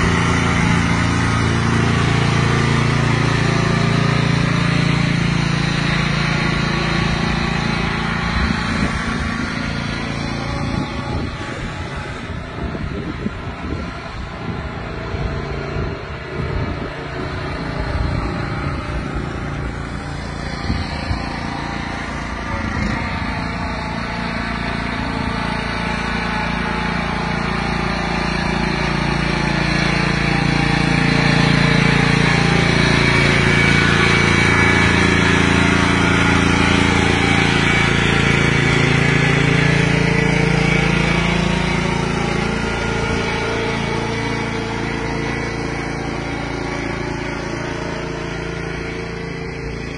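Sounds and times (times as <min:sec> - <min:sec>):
riding lawnmower engine running: 0:00.0 - 0:49.9.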